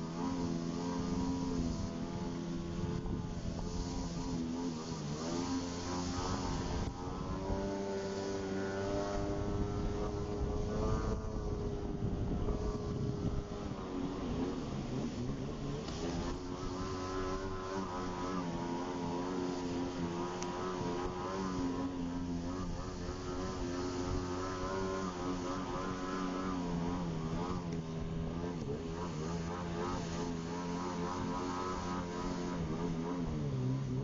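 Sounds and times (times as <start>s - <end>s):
jet ski engine running: 0.0s - 34.0s.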